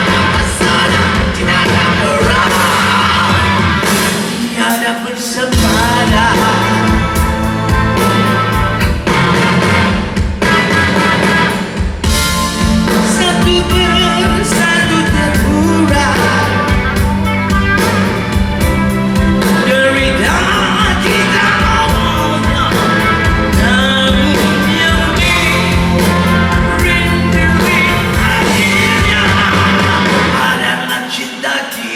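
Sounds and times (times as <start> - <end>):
person singing: 0.0 - 9.2, 12.6 - 31.9
rock band playing live: 0.0 - 31.9.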